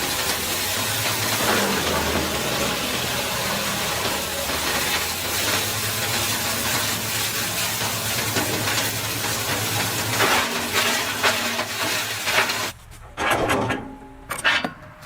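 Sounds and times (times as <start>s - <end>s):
wood chipper running: 0.0s - 12.8s.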